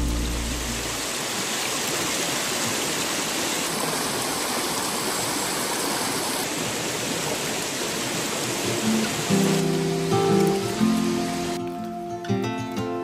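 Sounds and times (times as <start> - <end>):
stream rushing over stones: 0.0 - 11.9.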